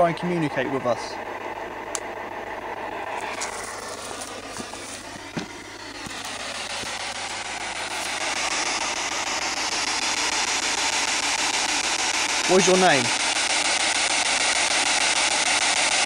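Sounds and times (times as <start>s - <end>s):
radio static with wavering tones: 0.0s - 16.0s.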